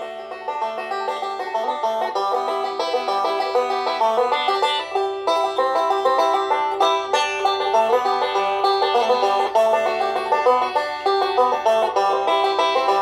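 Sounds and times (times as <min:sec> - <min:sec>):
upbeat country music: 0:00.0 - 0:13.0.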